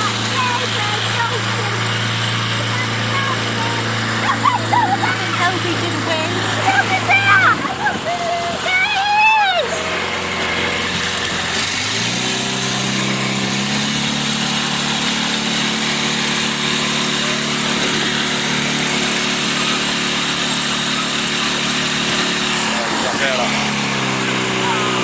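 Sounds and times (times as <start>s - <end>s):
boat engine revving: 0.0s - 25.0s.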